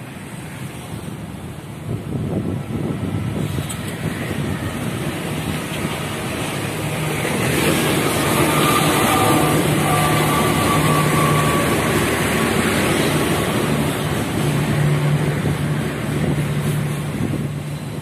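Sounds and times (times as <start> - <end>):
wheels roaring on rail: 0.0 - 18.0
low engine hum: 0.2 - 18.0.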